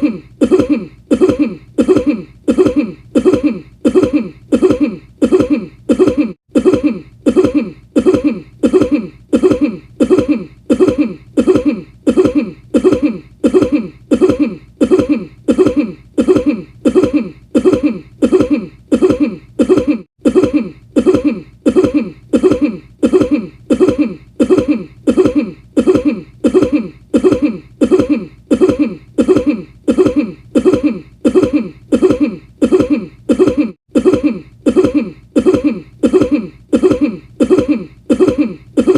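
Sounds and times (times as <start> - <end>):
person coughing: 0.0 - 38.9.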